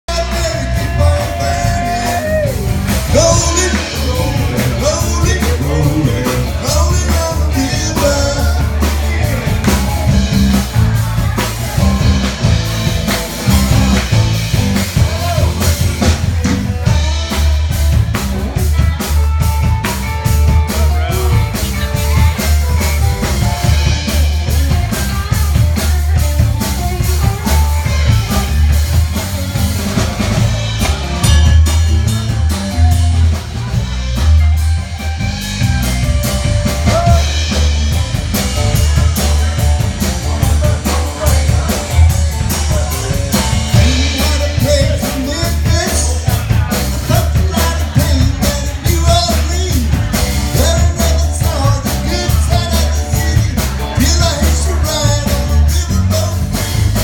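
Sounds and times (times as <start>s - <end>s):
electric bass guitar: 0.0s - 57.0s
man singing: 0.0s - 57.0s
drum kit: 0.1s - 57.0s.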